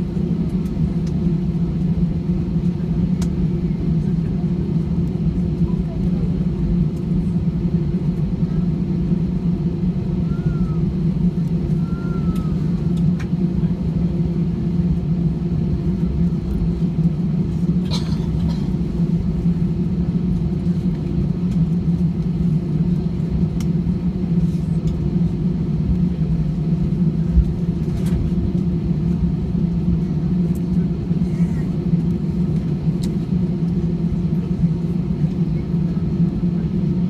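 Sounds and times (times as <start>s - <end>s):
airliner cabin rumble and hum: 0.0s - 37.0s.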